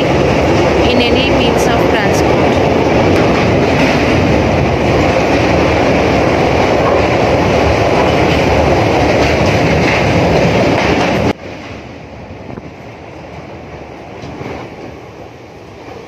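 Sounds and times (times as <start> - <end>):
train rumbling over bridge: 0.0 - 16.0.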